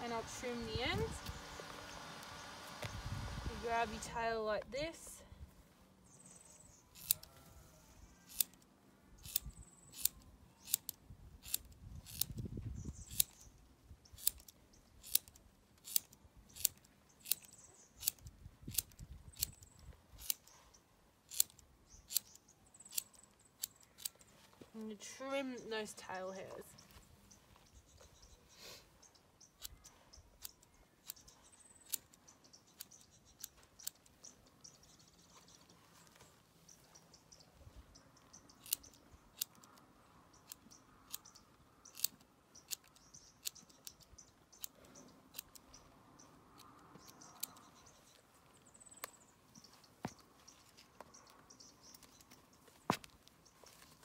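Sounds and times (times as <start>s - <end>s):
birds chirping faintly: 0.0s - 11.6s, 12.5s - 54.0s.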